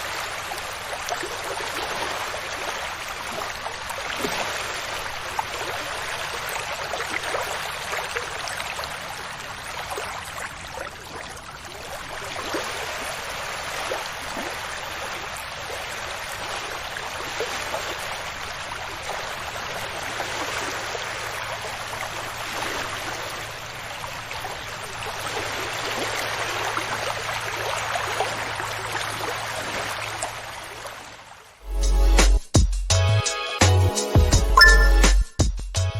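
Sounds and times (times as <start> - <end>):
ocean waves on beach: 0.0 - 31.6.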